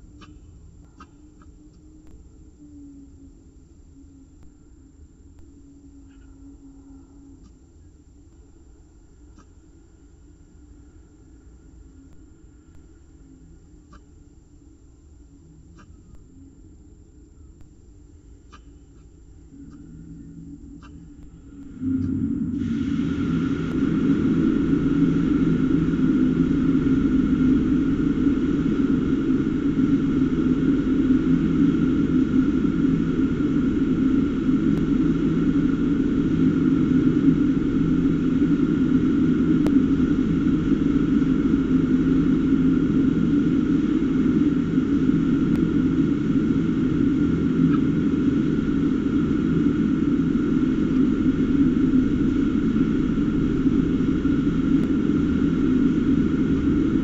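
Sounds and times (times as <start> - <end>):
high whine: 0.0 - 57.0
low mechanical drone: 0.0 - 57.0.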